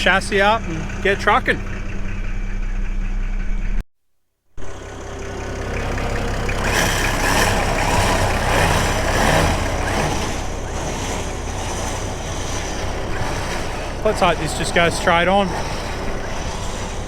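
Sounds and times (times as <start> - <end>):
truck engine idling: 0.0 - 3.8, 4.6 - 17.0.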